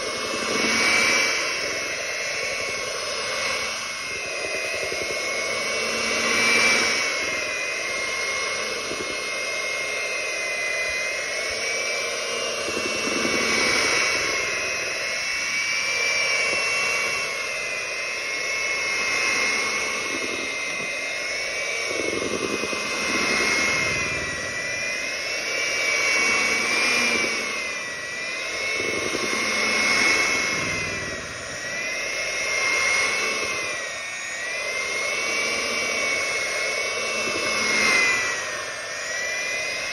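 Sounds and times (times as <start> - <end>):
electric hand mixer whining: 0.0 - 39.9.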